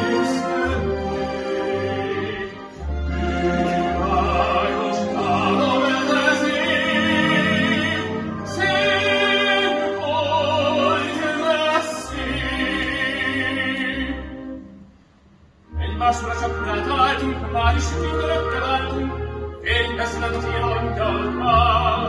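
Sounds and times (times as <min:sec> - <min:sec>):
operatic singing with vibrato: 0:00.0 - 0:15.0, 0:15.6 - 0:22.0
symphony orchestra: 0:00.0 - 0:22.0.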